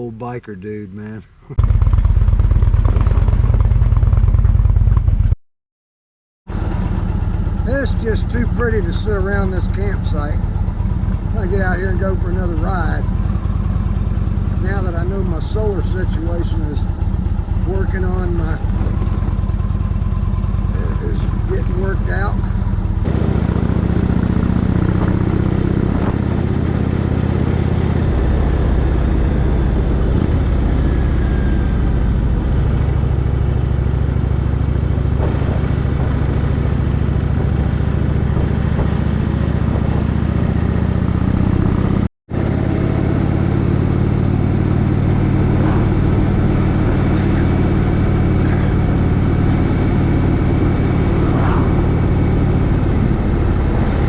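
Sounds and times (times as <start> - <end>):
motorcycle engine cruising: 1.5 - 5.4, 6.5 - 54.0.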